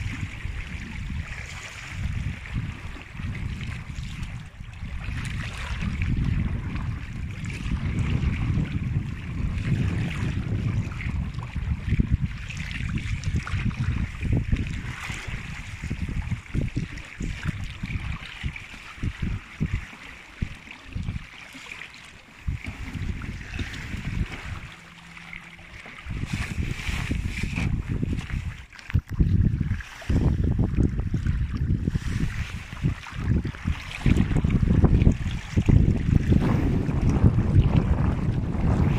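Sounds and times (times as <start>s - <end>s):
wind buffeting microphone: 0.0s - 21.7s, 22.3s - 38.9s
water splashing along hull: 0.0s - 38.9s.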